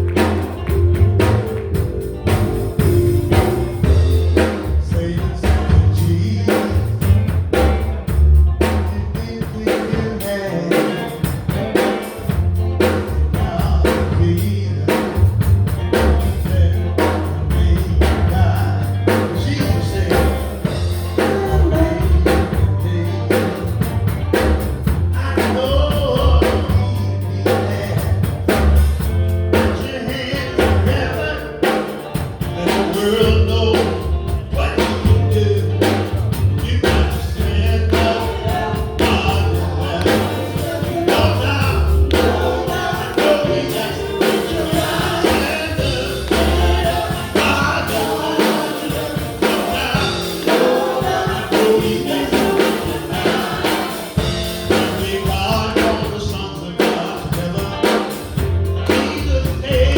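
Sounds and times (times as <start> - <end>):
bass line: 0.0 - 59.9
drums: 0.0 - 59.9
electric guitar: 0.0 - 59.9
keyboard: 0.0 - 59.9
men singing together: 3.4 - 7.1, 8.9 - 12.2, 16.2 - 23.9, 25.1 - 28.7, 29.5 - 58.3, 58.9 - 59.9.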